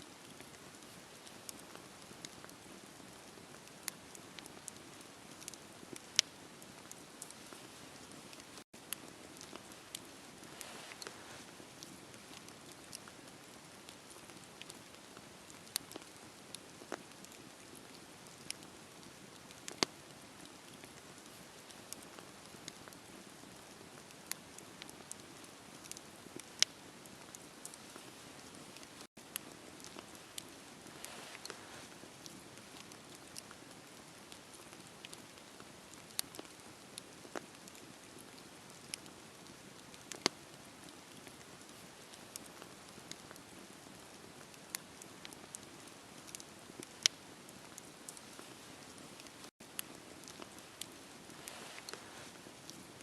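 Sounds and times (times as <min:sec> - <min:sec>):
wood fire crackling and popping: 0:00.1 - 0:53.0.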